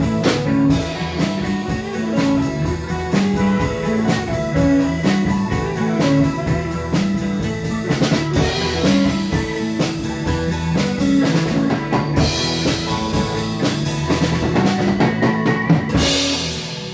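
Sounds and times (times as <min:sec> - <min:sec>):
rock band playing instrumental: 0:00.0 - 0:16.9.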